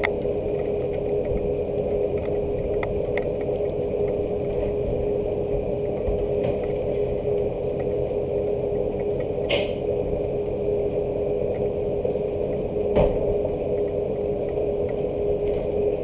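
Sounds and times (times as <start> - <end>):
rain: 0.0 - 16.0
steady low hum: 0.0 - 16.0.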